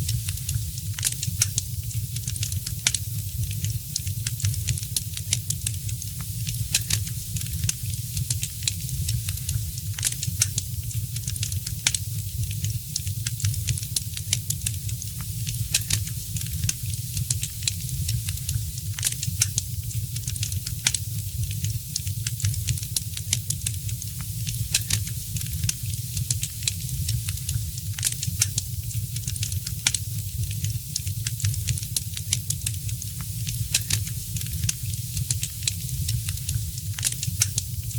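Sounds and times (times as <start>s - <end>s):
flames rumbling and hissing: 0.0s - 30.7s
fire crackling and popping: 0.0s - 37.9s.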